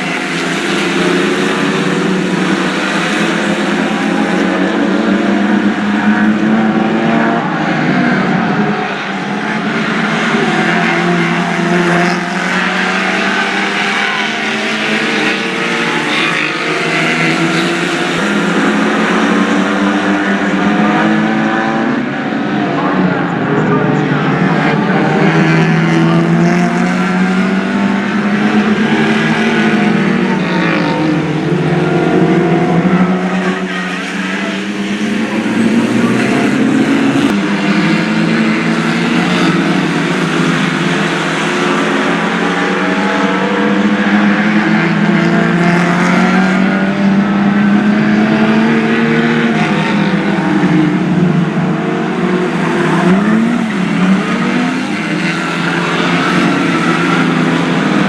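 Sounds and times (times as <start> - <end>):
race car engines: 0.0 - 58.0.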